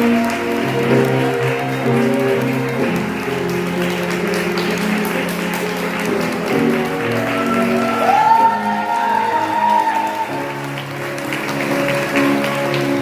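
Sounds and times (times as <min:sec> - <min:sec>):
guests applauding: 0:00.0 - 0:13.0
wedding entrance music: 0:00.0 - 0:13.0.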